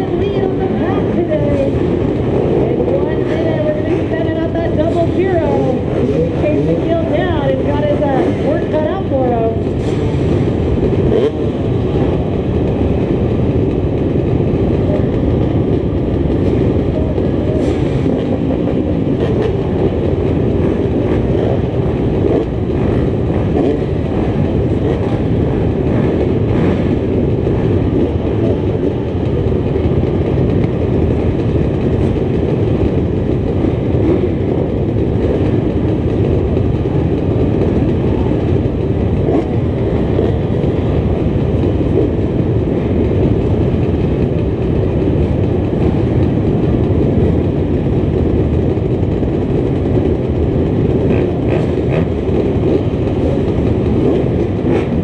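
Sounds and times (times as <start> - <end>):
many dirt bike engines idling: 0.0 - 55.0.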